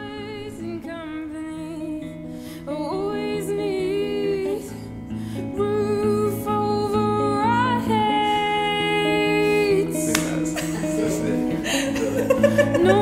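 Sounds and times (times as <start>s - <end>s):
song with plucked guitar: 0.0s - 13.0s.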